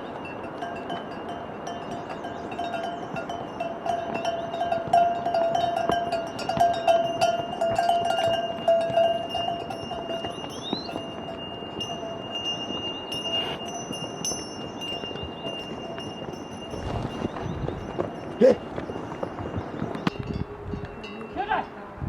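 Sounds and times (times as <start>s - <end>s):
metal bells ringing and jangling: 0.0s - 21.6s.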